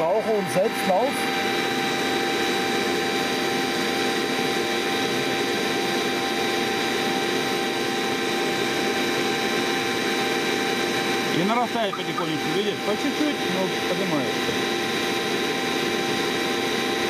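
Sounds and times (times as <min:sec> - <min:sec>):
motor-generator hum: 0:00.0 - 0:17.0.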